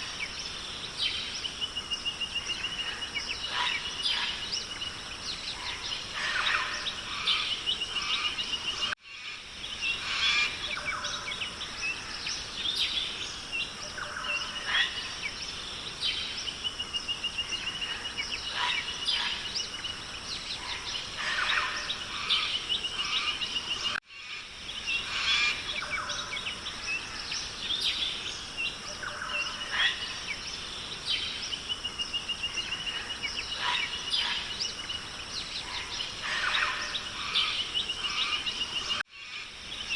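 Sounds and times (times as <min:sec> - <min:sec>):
birds calling and chirping: 0:00.0 - 0:39.9
steady high hiss: 0:00.0 - 0:39.9.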